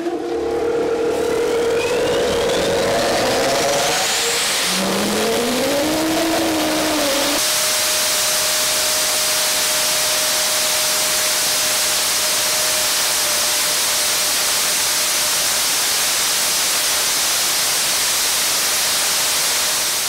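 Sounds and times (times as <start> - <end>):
jet engine running: 0.0 - 20.0.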